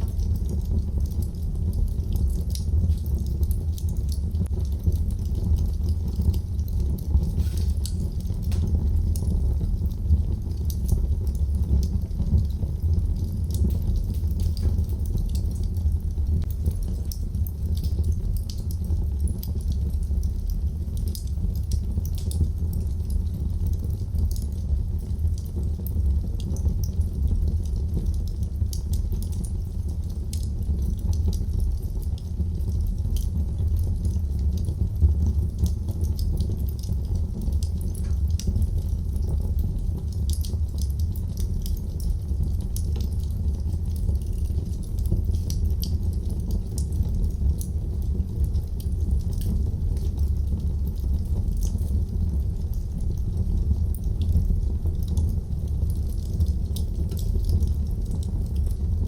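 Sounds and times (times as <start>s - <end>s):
fire crackling and snapping: 0.0s - 59.0s
wood fire rumbling: 0.0s - 59.0s.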